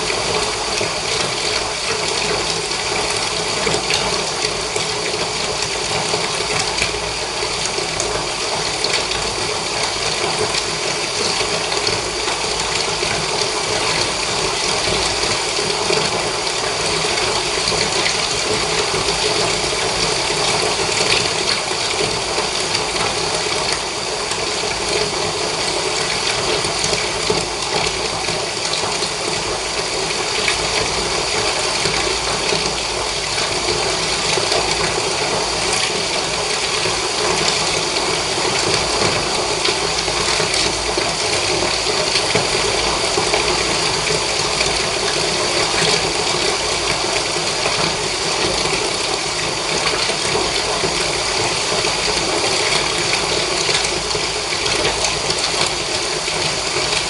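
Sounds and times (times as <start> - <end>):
tap water pouring into bath: 0.0 - 57.0.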